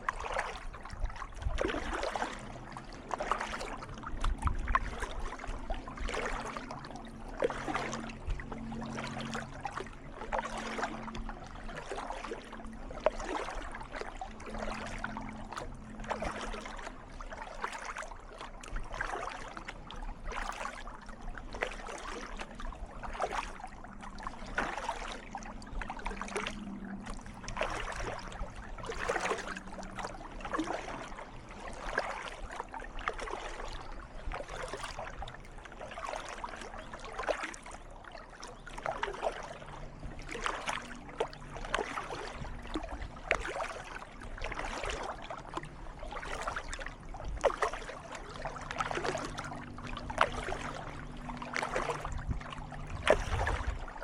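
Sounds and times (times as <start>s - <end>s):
paddle strokes splashing: 0.0s - 54.0s
water trickling off paddle: 0.0s - 54.0s.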